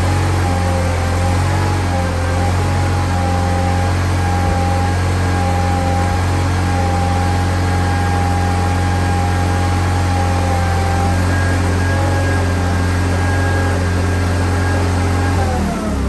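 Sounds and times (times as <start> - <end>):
garden tractor engine idling: 0.0 - 16.0.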